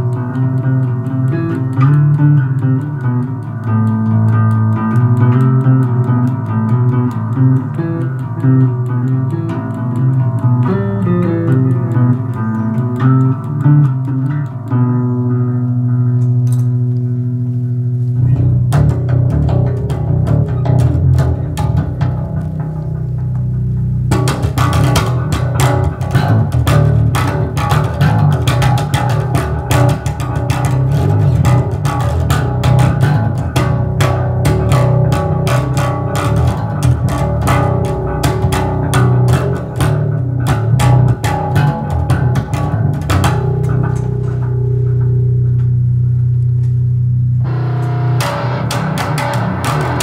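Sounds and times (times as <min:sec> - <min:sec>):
electric bass plucked notes: 0:00.0 - 0:50.0.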